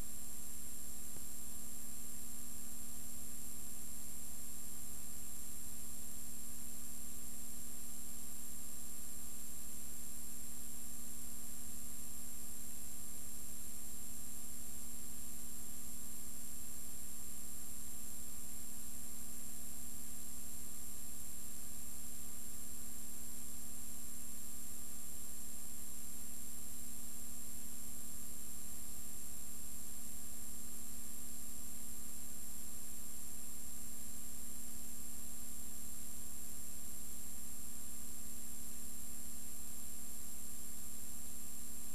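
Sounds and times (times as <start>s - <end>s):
hiss and electrical hum: 0.0s - 41.9s.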